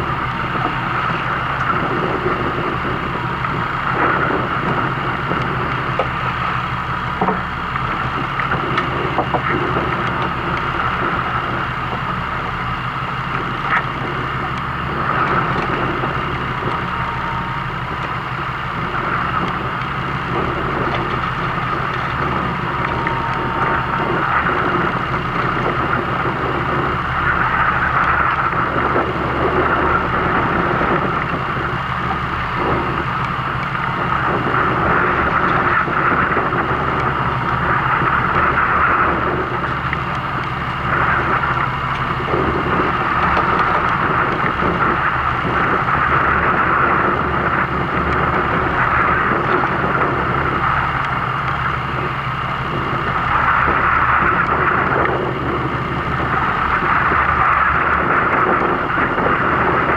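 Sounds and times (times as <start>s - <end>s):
boat engine running: 0.0s - 59.9s
wind and water rushing: 0.0s - 59.9s.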